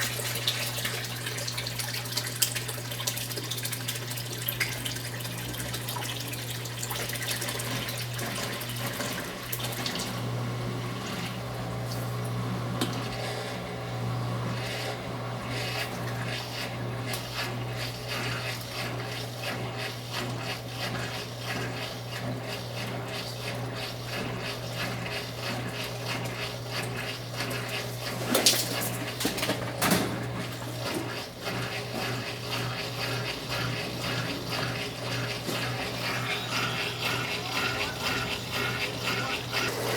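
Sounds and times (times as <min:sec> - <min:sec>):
water flowing into washing machine: 0:00.0 - 0:39.9.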